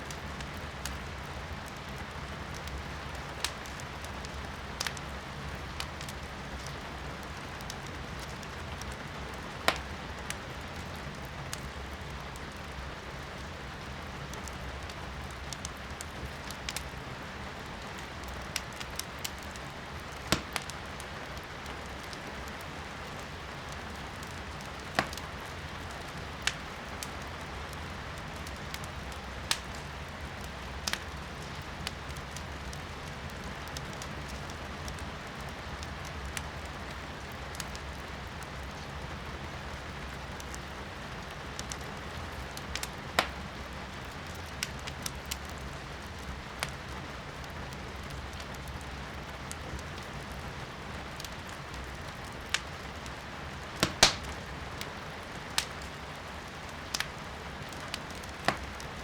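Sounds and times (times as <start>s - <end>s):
firewood crackling and popping: 0.0s - 59.0s
rain hiss heard indoors: 0.0s - 59.0s.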